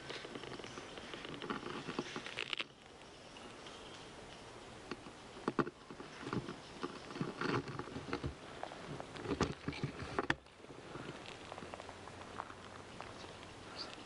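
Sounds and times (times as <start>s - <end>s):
rustling and crackling: 0.0s - 14.0s.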